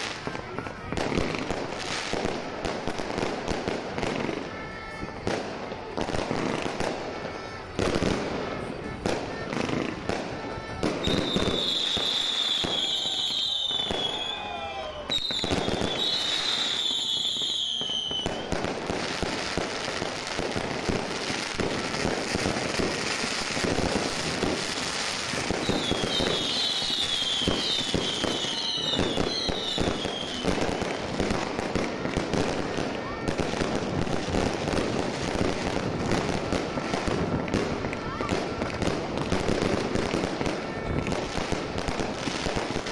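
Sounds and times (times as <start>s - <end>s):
fireworks crackling bangs and pops: 0.0s - 42.9s
fireworks whistles falling in pitch: 0.0s - 42.9s.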